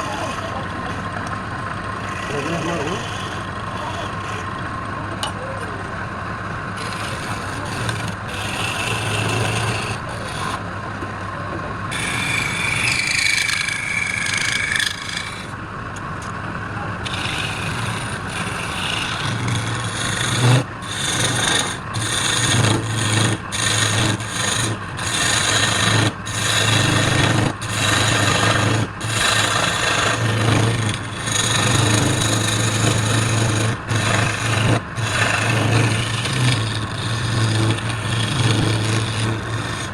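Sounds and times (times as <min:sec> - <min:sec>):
wood being rasped: 0:00.0 - 0:01.2, 0:01.8 - 0:04.6, 0:06.8 - 0:10.6, 0:11.9 - 0:15.6, 0:17.0 - 0:39.9
low machine hum: 0:00.0 - 0:39.9.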